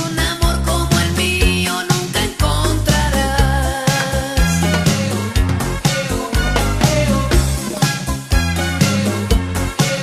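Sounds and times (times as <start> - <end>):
pop song with bass and drums: 0.0 - 10.0.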